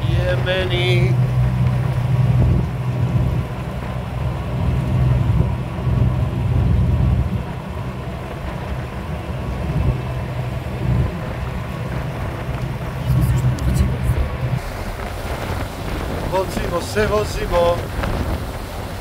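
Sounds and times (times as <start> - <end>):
ferry diesel engine droning: 0.0 - 17.0
wind buffeting microphone: 0.0 - 19.0.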